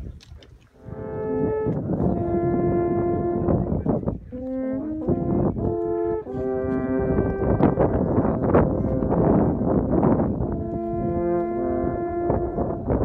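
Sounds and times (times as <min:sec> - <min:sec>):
alphorns playing in harmony: 0:00.8 - 0:13.0.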